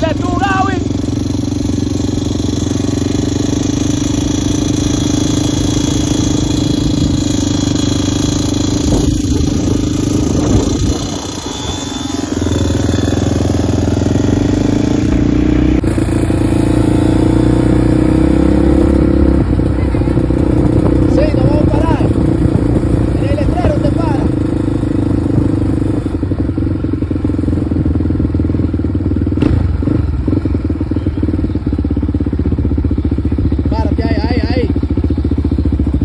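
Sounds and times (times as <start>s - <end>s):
motorcycle engines running: 0.0s - 36.0s.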